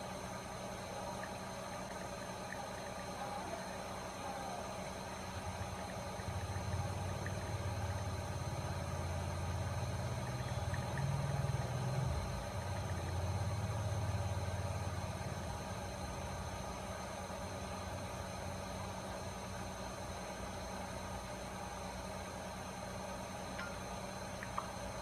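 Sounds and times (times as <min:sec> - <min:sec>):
hot air blower humming: 0:00.0 - 0:25.0.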